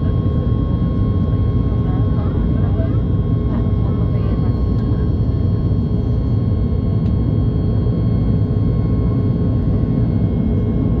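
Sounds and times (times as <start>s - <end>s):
faint jet engine whine: 0.0s - 11.0s
jet engines rumbling: 0.0s - 11.0s.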